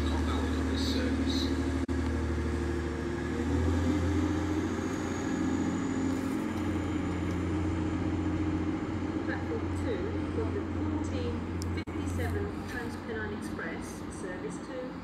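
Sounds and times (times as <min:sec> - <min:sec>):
train diesel engines droning: 0:00.0 - 0:15.0.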